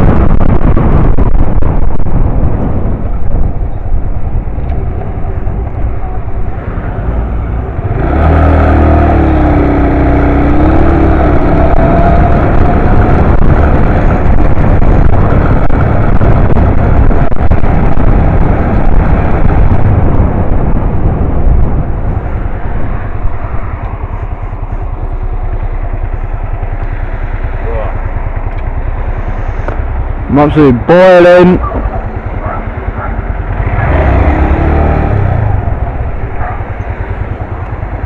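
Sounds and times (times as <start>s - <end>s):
motorbike engine riding along: 0.0s - 38.0s.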